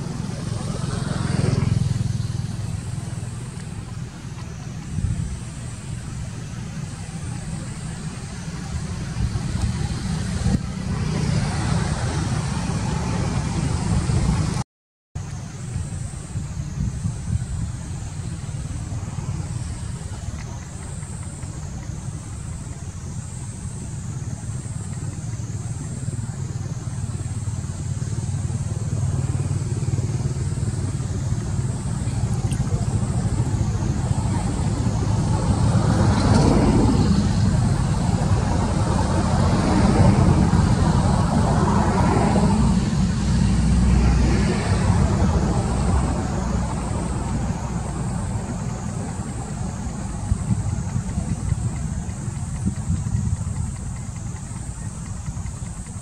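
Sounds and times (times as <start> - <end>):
vehicle engine rumbling: 0.0 - 14.6, 15.2 - 56.0.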